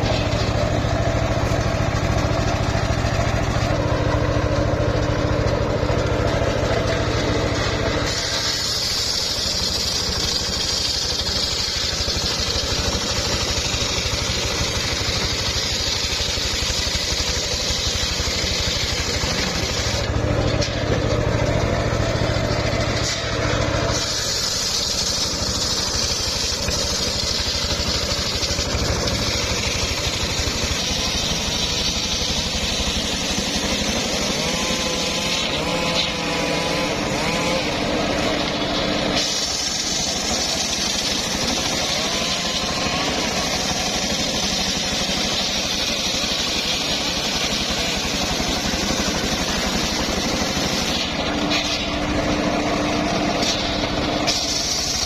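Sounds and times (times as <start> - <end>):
engine drone: 0.0 - 55.0
saw blade ripping through log: 0.0 - 55.0.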